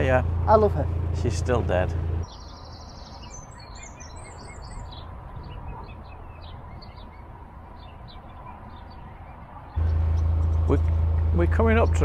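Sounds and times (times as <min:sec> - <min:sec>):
boat engine rumble: 0:00.0 - 0:03.0, 0:04.2 - 0:12.0
songbirds chirping: 0:00.0 - 0:12.0.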